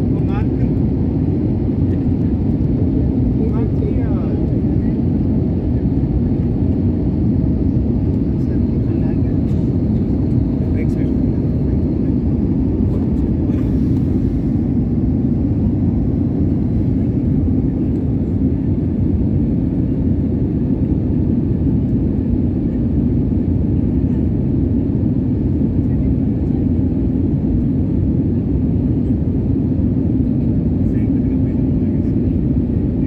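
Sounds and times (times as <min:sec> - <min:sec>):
airliner cabin engine noise: 0:00.0 - 0:33.0.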